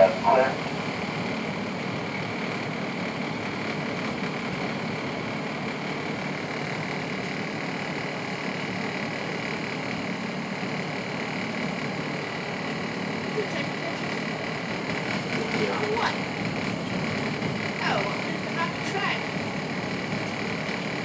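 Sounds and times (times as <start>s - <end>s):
high whine: 0.0s - 21.0s
train wheels rumbling on rail: 0.0s - 21.0s.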